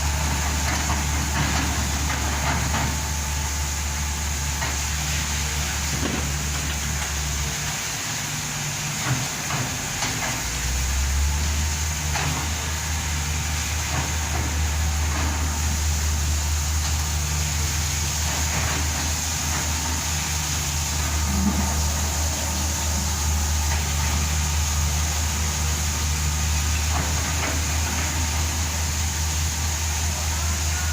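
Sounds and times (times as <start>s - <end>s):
backhoe diesel engine running: 0.0s - 30.9s.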